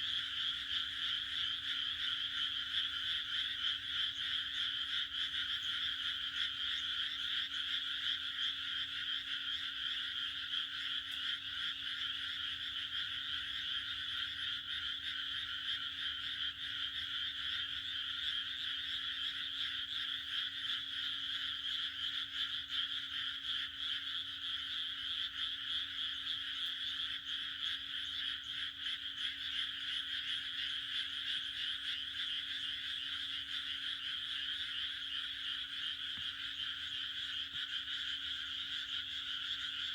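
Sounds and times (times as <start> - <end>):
frogs croaking chorus: 0.0 - 39.9.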